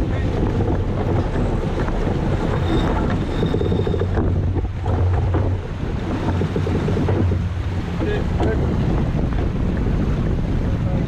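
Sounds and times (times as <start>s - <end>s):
water rushing along a hull: 0.0s - 11.0s
wind buffeting the microphone: 0.0s - 11.0s.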